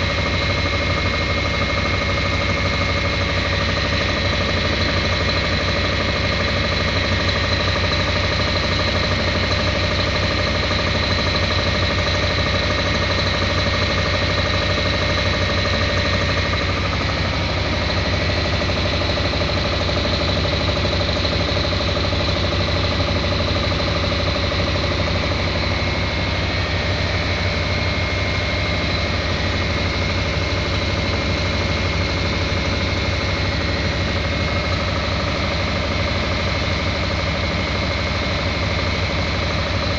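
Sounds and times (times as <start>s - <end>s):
engine pulsing: 0.0s - 39.9s.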